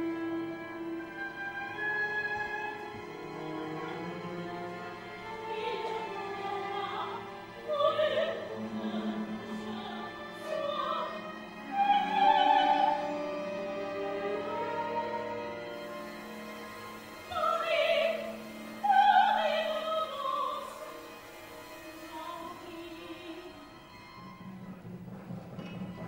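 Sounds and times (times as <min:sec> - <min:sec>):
orchestra playing: 0:00.0 - 0:26.0.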